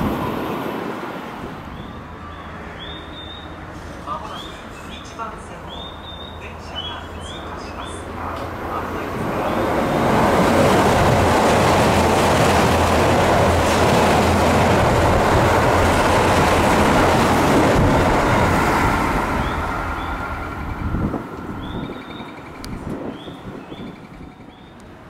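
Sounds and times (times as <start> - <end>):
electric train passing at speed: 0.0 - 25.0.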